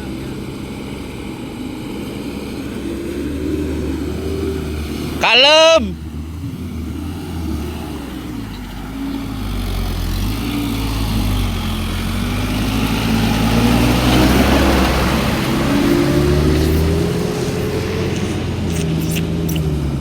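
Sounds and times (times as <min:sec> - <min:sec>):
truck engine under load: 0:00.0 - 0:20.0.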